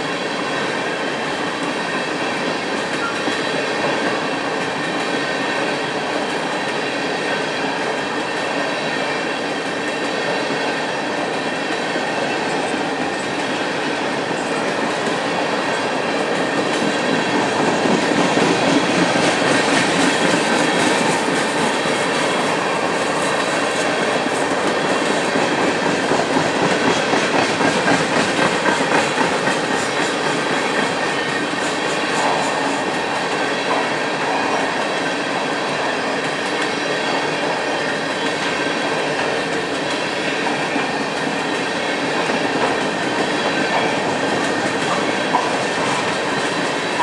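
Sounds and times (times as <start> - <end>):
train wheels rolling on rails: 0.0 - 47.0.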